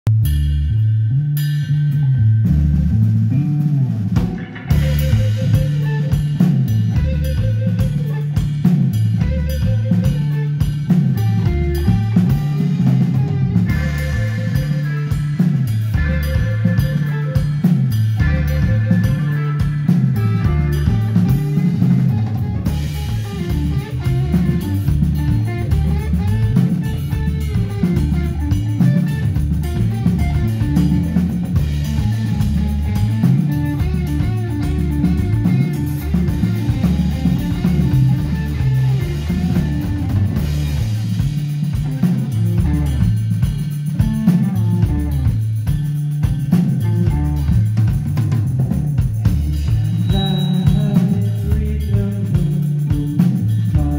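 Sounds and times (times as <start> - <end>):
bass guitar: 0.0 - 53.9
drum kit: 0.1 - 53.9
electric guitars: 1.1 - 53.9.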